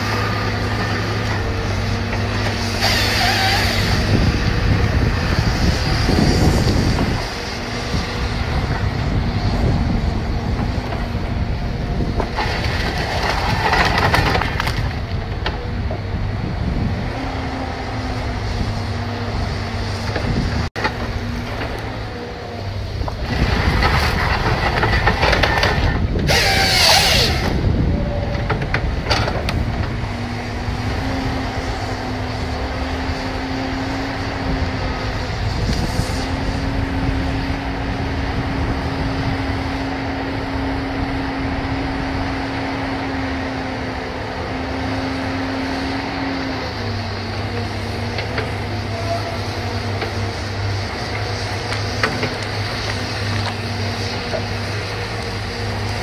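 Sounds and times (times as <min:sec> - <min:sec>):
diesel engine revving under load: 0:00.0 - 0:56.0.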